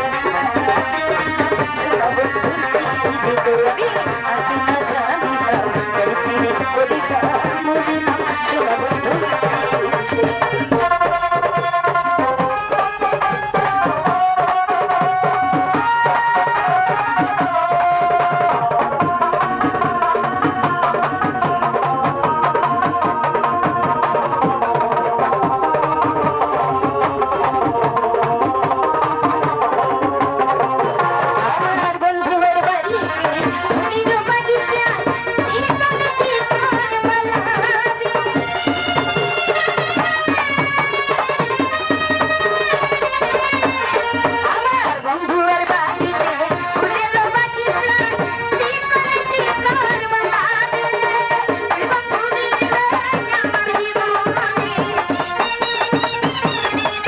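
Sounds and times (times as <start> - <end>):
hand drums beating: 0.0 - 57.0.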